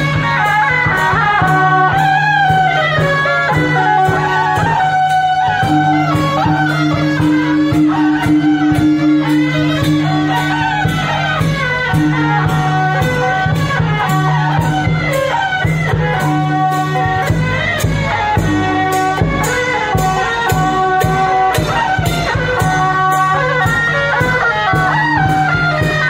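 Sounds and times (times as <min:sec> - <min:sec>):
gongs and cymbals striking: 0:00.0 - 0:26.0
reed horns playing melody: 0:00.0 - 0:26.0.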